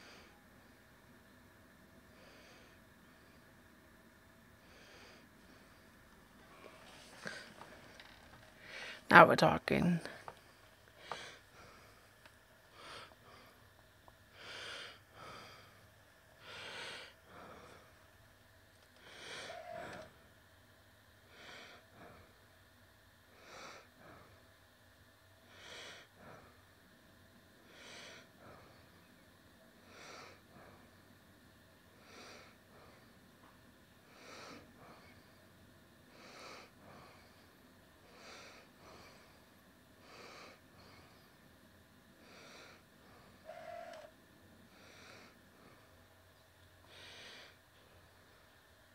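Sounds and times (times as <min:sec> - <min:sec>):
faint breathing: 0:00.0 - 0:00.8, 0:01.9 - 0:09.1, 0:10.0 - 0:20.4, 0:21.1 - 0:24.8, 0:25.4 - 0:48.7.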